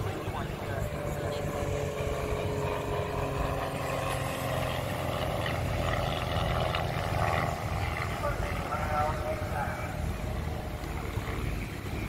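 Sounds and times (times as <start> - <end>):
aircraft engine droning overhead: 0.0 - 12.0.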